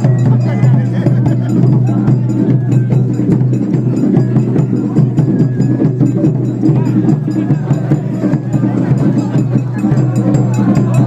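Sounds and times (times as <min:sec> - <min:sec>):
percussive strikes: 0:00.0 - 0:11.0.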